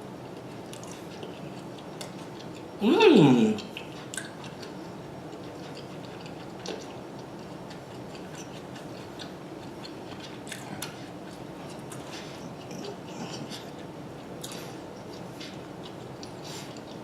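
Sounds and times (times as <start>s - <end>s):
low room hum: 0.0s - 17.0s
chewing food: 0.1s - 17.0s.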